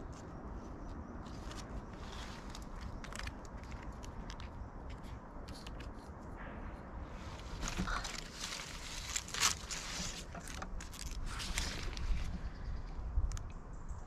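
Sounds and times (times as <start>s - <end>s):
rustling and clicks of artichoke handling: 0.0s - 6.5s, 7.1s - 13.5s
steady low rumble: 0.0s - 14.0s.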